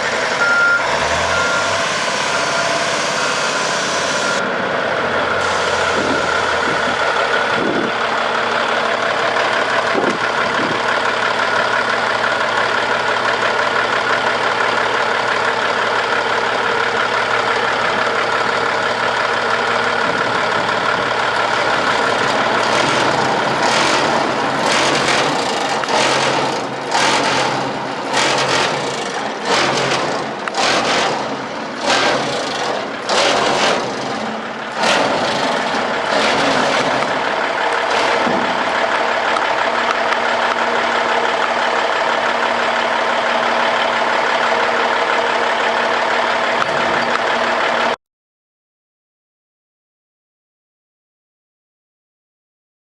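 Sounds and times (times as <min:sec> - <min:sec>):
diesel truck engine idling: 0:00.0 - 0:48.0
engine surges: 0:00.0 - 0:48.0.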